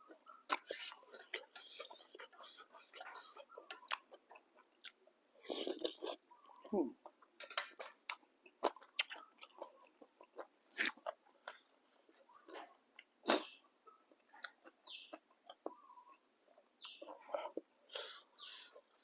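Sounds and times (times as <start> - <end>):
chewing and mouth noises: 0.0 - 19.0.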